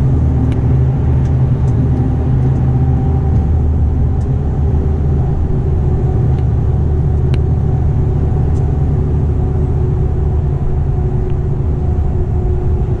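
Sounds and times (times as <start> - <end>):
road noise: 0.0 - 13.0
truck diesel engine rumble: 0.0 - 13.0.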